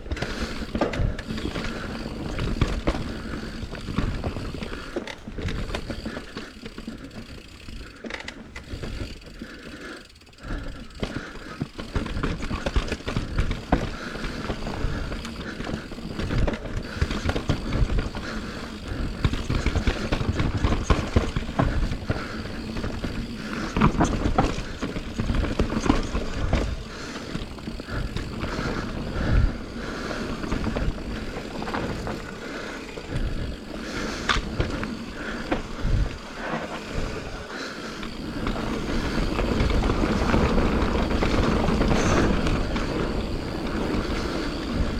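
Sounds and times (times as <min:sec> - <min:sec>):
bike knocking and rattling over bumps: 0:00.0 - 0:44.9
bike tyres rumbling on dirt: 0:00.0 - 0:44.9.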